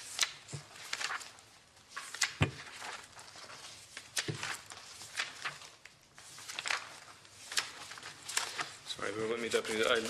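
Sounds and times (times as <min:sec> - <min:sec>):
pages being turned: 0:00.0 - 0:10.0
papers rustling: 0:00.0 - 0:10.0.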